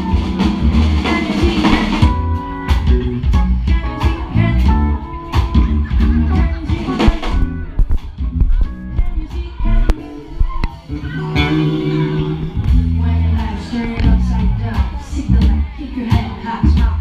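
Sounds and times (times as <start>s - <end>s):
electric guitar: 0.0s - 15.7s
bass guitar: 0.0s - 17.0s
drum kit: 0.0s - 17.0s.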